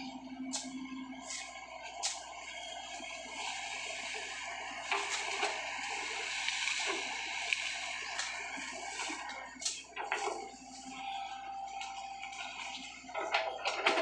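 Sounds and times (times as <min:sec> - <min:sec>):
excavator machinery hiss: 0:00.0 - 0:13.2.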